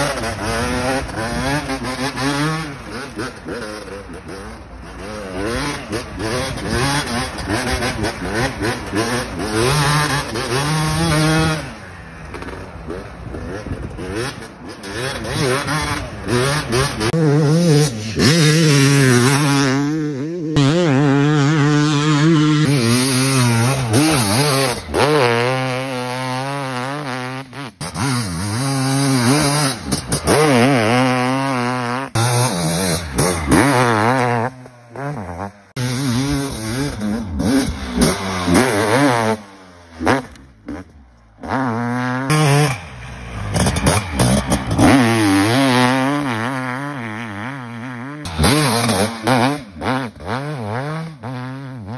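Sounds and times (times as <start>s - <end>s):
motocross bikes revving: 0.0s - 51.9s.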